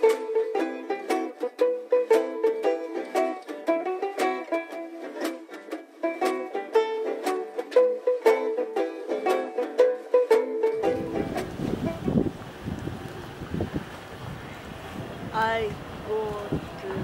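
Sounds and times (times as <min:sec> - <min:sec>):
plucked string music: 0:00.0 - 0:13.8.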